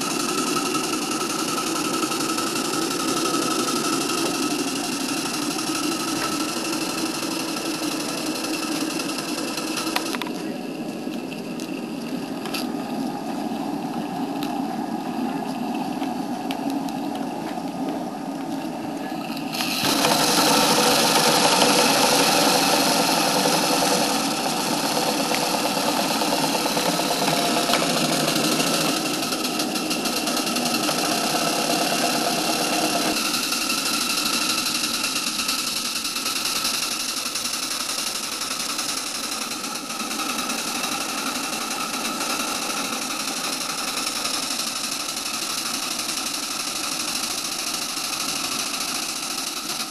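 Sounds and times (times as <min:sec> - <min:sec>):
loud steam hiss: 0:00.0 - 0:49.9
steam engine running: 0:00.0 - 0:49.9.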